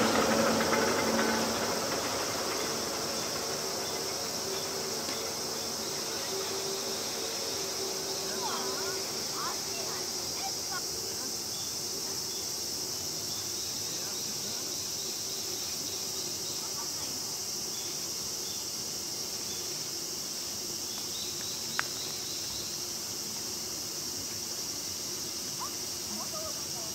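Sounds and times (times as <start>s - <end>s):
insects shrilling chorus: 0.0s - 26.9s.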